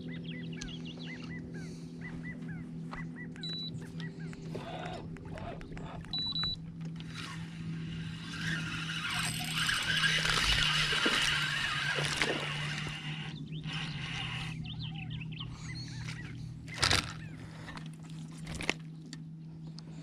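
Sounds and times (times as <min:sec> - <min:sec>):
birds chirping: 0:00.0 - 0:20.0
boat motor humming: 0:00.0 - 0:20.0.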